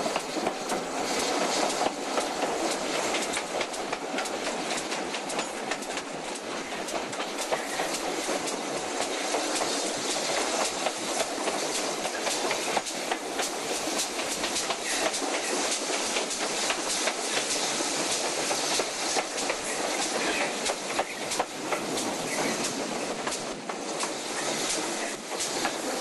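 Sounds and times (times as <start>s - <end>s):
rushing train noise: 0.0s - 26.0s.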